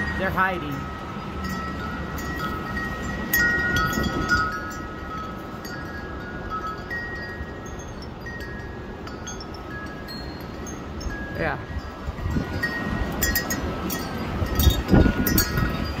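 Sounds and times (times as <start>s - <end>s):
strong gusting wind: 0.0s - 16.0s
wind chimes ringing: 0.0s - 16.0s.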